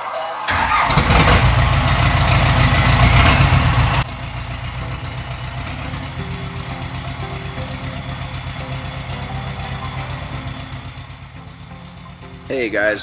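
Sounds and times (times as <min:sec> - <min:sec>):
diesel engine clattering and idling: 0:00.5 - 0:13.0.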